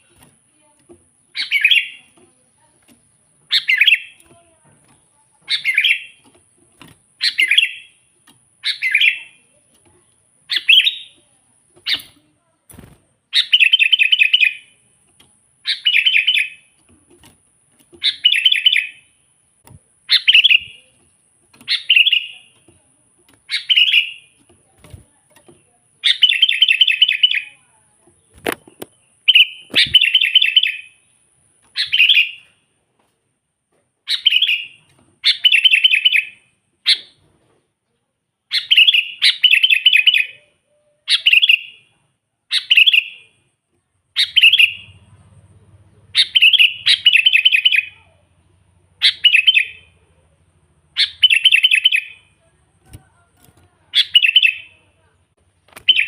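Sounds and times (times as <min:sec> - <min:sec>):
bulbul singing: 0:00.0 - 0:32.6, 0:34.1 - 0:37.2, 0:38.5 - 0:41.9, 0:42.5 - 0:43.4, 0:44.1 - 0:45.1, 0:46.0 - 0:56.0.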